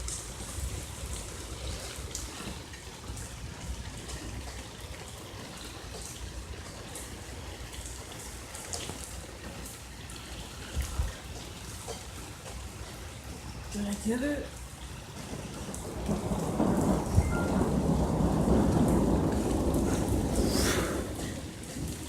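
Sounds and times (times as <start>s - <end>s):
rain falling: 0.0s - 22.0s
raindrops ticking: 0.0s - 22.0s.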